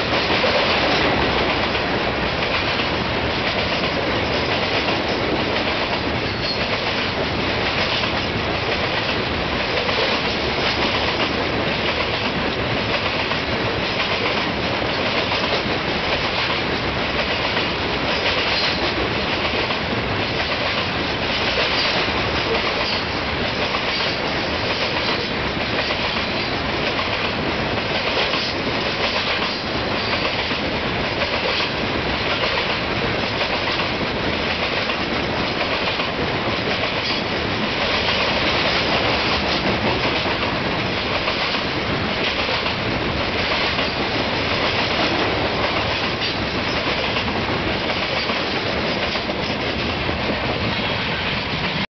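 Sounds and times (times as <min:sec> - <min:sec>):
rumble and rattle of train cars: 0:00.0 - 0:51.9
train wheels clickety-clack: 0:00.0 - 0:51.9.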